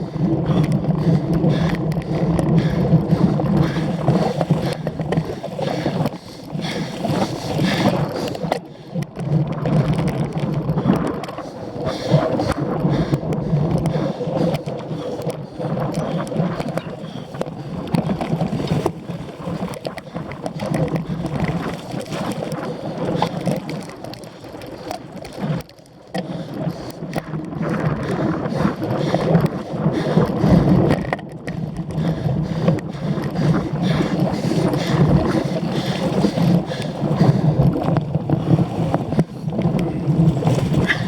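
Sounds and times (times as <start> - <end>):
wind buffeting the microphone: 0.0 - 24.2, 25.2 - 41.0.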